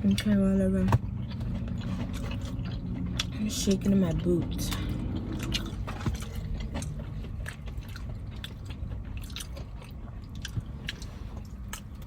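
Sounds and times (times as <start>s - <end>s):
chewing and biting: 0.0s - 12.0s
low rumble: 0.0s - 12.0s.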